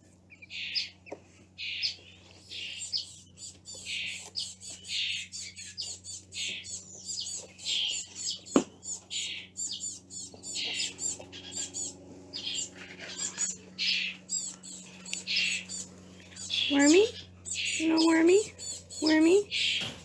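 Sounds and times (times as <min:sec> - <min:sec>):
faint low hum: 0:00.0 - 0:20.0
baby birds chirping: 0:00.1 - 0:20.0.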